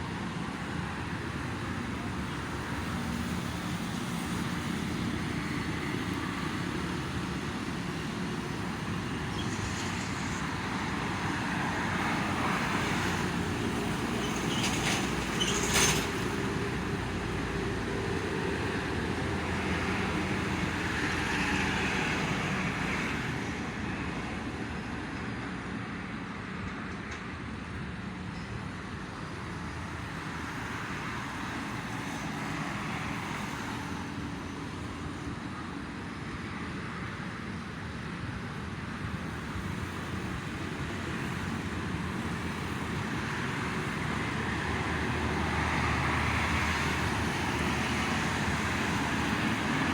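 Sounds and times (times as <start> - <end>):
traffic passing: 0.0 - 49.9.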